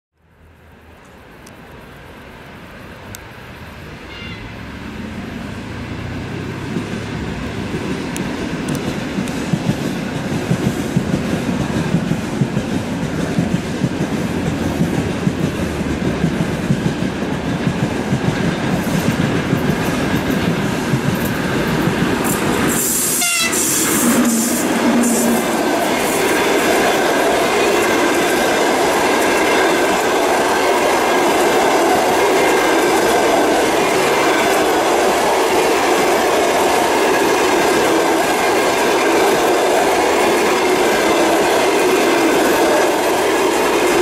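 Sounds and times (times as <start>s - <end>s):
train running rumble: 4.6s - 44.0s.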